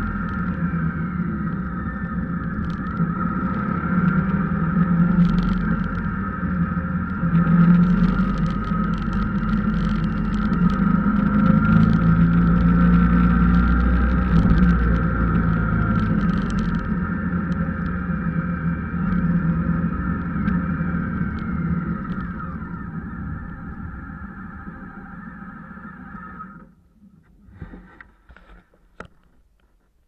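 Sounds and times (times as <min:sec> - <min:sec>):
low hum: 0:00.0 - 0:28.6
thin steady whine: 0:00.0 - 0:30.0
vehicle engine and road noise: 0:00.0 - 0:30.0.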